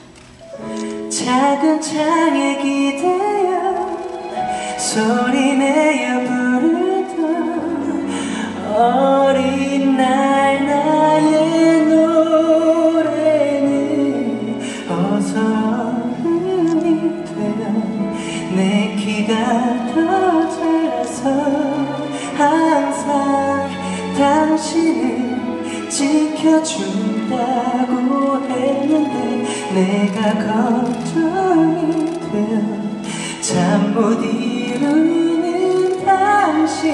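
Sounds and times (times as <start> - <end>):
orchestral accompaniment: 0.0 - 36.9
man singing into microphone: 0.6 - 36.9.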